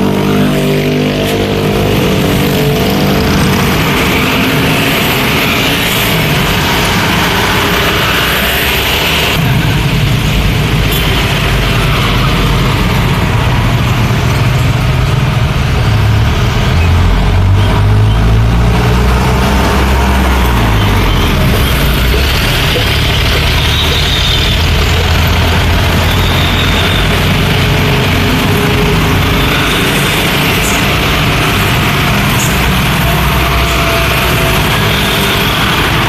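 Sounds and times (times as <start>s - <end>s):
bus passing: 0.0s - 36.0s
cars passing: 0.0s - 36.0s
diesel truck engines rumbling: 0.0s - 36.0s
motorcycles passing: 0.0s - 36.0s.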